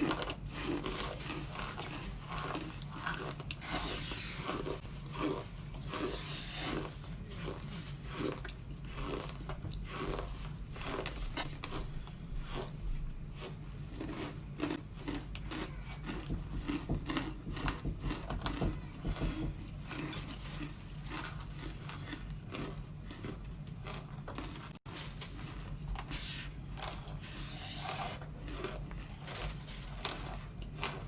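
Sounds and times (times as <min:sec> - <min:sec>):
starch chunks crunching: 0:00.0 - 0:31.0
steady low hum: 0:00.0 - 0:31.0.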